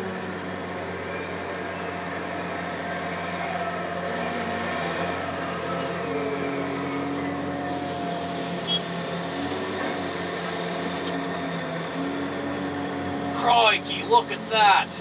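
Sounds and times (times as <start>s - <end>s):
hydraulic whine: 0.0s - 13.5s
excavator engine and hydraulics: 0.0s - 15.0s.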